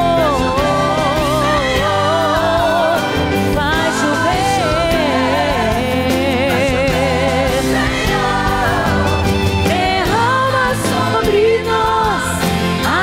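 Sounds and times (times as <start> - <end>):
instrumental backing: 0.0 - 13.0
woman singing: 0.0 - 13.0.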